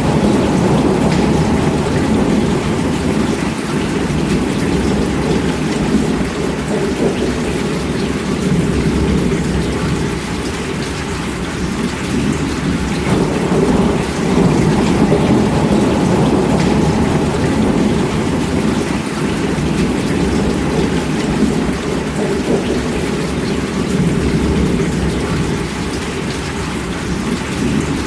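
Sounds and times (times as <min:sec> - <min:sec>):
heavy rain: 0:00.0 - 0:28.0
rumble of thunder: 0:00.0 - 0:28.0.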